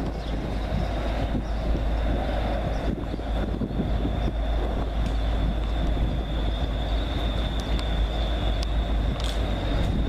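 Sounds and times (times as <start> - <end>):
high-pitched whine: 0.0 - 10.0
train engine and wheels rumbling: 0.0 - 10.0.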